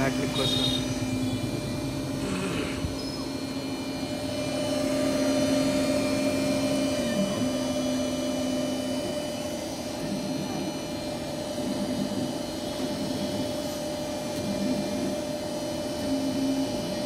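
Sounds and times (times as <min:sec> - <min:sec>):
laser cutter humming: 0:00.0 - 0:17.0.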